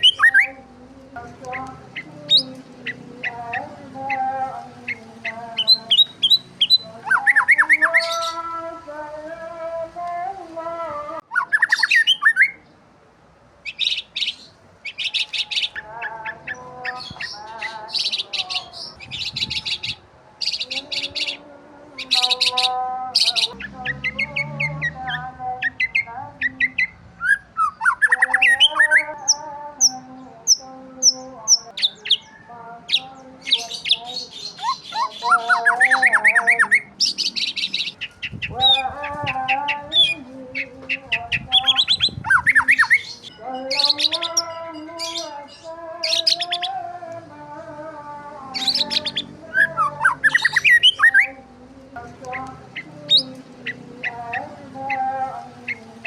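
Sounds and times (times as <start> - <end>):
birds chirping and trilling: 0.0 - 12.9, 13.6 - 56.0.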